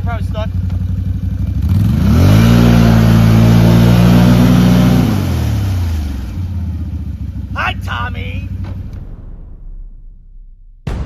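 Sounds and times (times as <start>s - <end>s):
atv engine revving: 0.0s - 8.9s.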